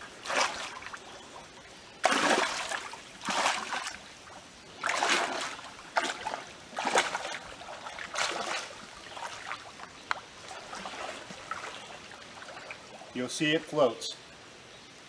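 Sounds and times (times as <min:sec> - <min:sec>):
water splashing from wading: 0:00.0 - 0:13.2.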